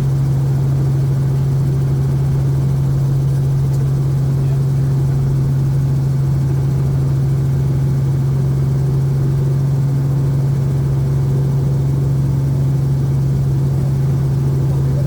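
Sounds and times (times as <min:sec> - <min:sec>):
helicopter engine and rotors: 0:00.0 - 0:15.0.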